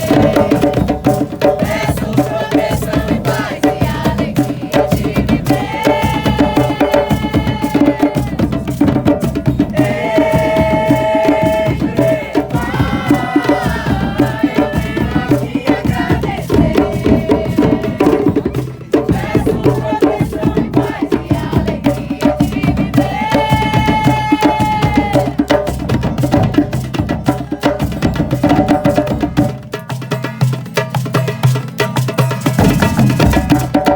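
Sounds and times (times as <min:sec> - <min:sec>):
drums and hand percussion: 0:00.0 - 0:33.9.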